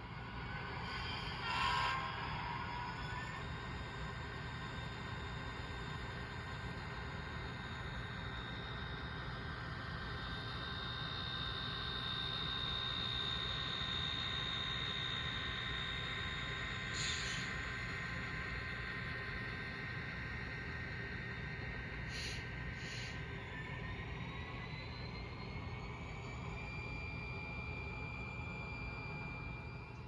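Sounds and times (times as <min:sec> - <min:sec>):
model locomotive rumble and whine: 0:00.0 - 0:30.0.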